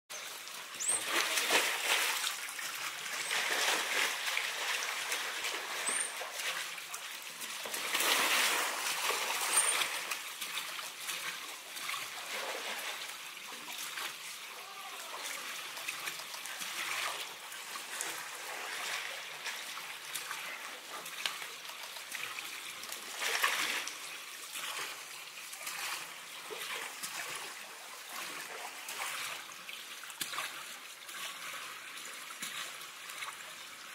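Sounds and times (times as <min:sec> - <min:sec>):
water trickling and splashing: 0:00.1 - 0:33.9.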